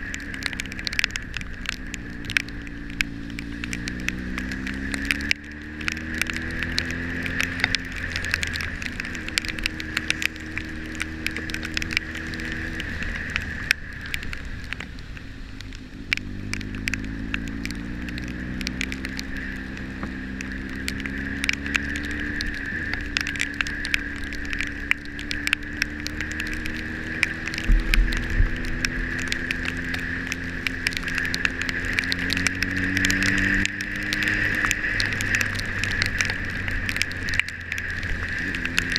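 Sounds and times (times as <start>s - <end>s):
motorcycle engine running: 0.0s - 38.9s
rain ticking on camera: 0.0s - 38.9s.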